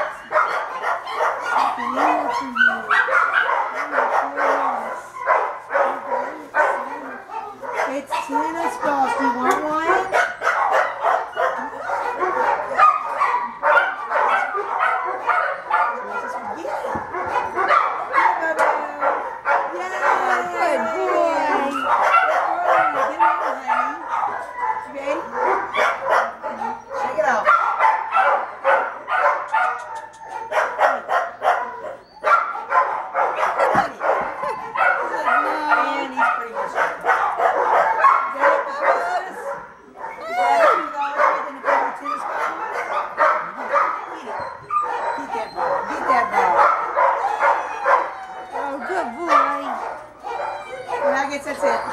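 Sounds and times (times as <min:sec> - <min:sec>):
small dog barking: 0:00.0 - 0:51.9.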